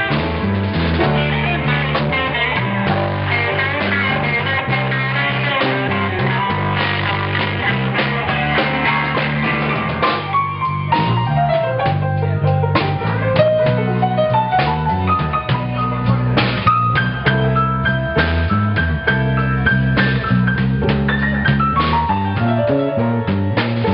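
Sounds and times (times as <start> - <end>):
blues guitar: 0.0 - 23.9
drums beat: 0.0 - 23.9.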